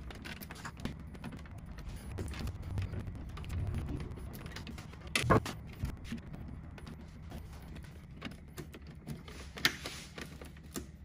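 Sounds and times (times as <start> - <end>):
low steady hum: 0.0 - 11.0
wires clicking and rustling: 0.0 - 11.0.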